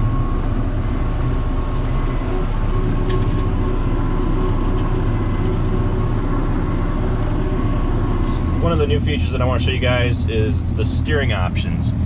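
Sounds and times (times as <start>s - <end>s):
faint thin whine: 0.0s - 10.1s
rotary mower cutting grass: 0.0s - 11.8s
tractor diesel engine drone: 0.0s - 12.0s.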